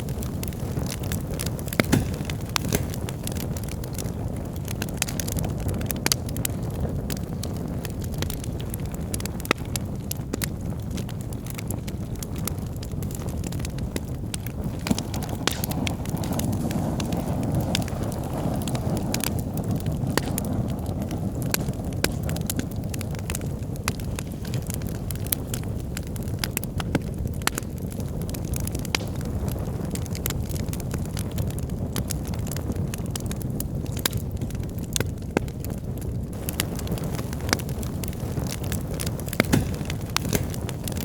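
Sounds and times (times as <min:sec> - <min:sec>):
flames rushing: 0:00.0 - 0:41.0
logs crackling and popping: 0:00.0 - 0:41.0.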